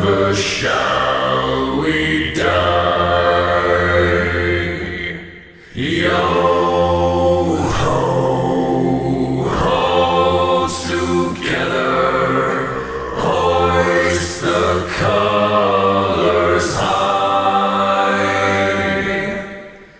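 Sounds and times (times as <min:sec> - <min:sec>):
chant-like sung vocal: 0:00.0 - 0:19.9.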